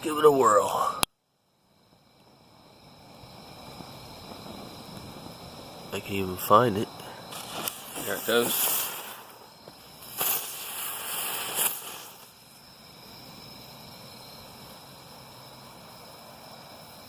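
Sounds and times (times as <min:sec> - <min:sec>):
firework hissing whoosh: 0:02.4 - 0:17.0.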